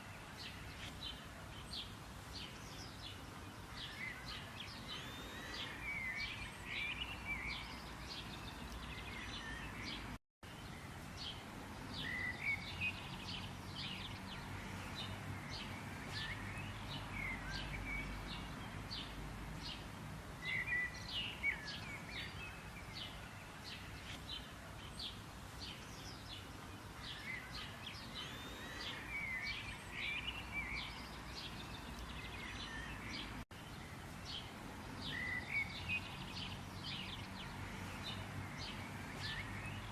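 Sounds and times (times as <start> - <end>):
birds chirping and singing: 0.0 - 19.8, 20.4 - 39.9
outdoor background hiss: 0.0 - 39.9.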